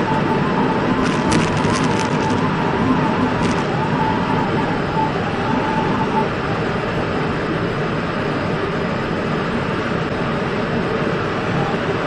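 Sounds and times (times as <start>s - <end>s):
faint high whine: 0.0s - 12.0s
train wheels rumbling on rail: 0.0s - 12.0s.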